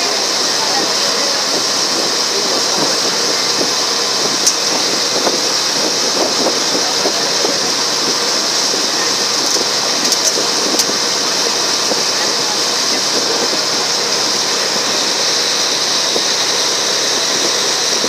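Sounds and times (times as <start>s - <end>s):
ferry engine drone: 0.0s - 18.0s
water rushing along boat: 0.0s - 18.0s.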